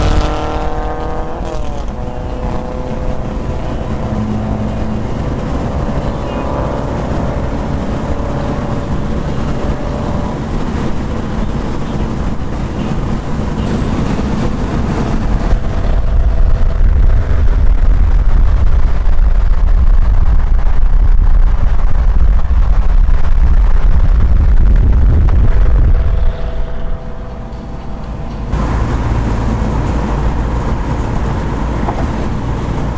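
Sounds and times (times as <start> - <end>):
car engine rumble: 0.0 - 32.9
road and wind noise: 0.0 - 32.9.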